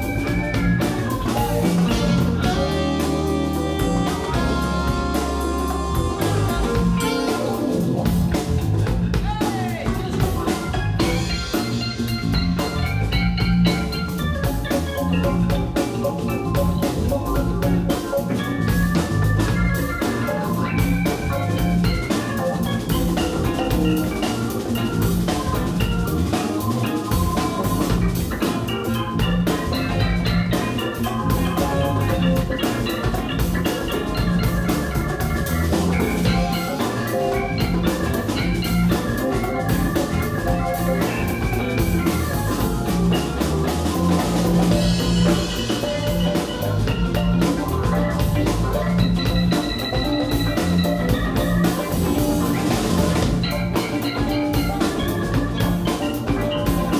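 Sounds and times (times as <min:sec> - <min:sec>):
bass: 0:00.0 - 0:56.9
busy melody line: 0:00.0 - 0:56.9
drum kit: 0:00.0 - 0:56.9
electric guitar: 0:00.0 - 0:56.9.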